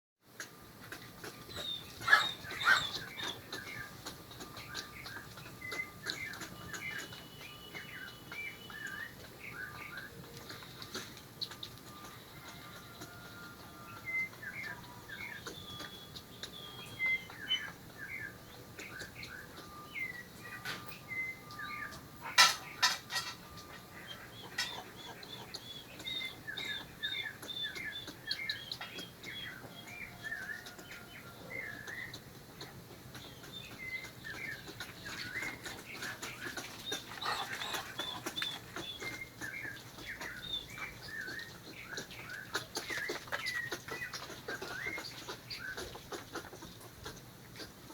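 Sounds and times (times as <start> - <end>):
squirrels chattering: 0.4 - 47.9.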